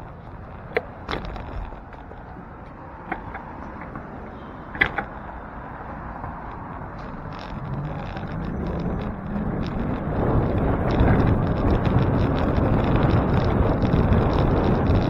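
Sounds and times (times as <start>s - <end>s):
bicycle clicks and knocks: 0.0s - 15.0s
traffic noise: 0.0s - 15.0s
wind rumble on microphone: 0.0s - 15.0s.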